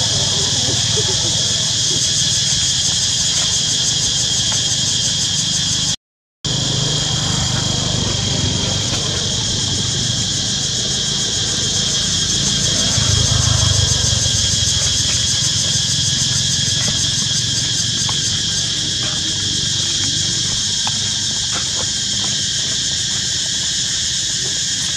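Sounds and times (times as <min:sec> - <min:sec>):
vehicle engine rumble: 0:00.0 - 0:03.6, 0:06.5 - 0:23.6
insects droning: 0:00.0 - 0:24.9.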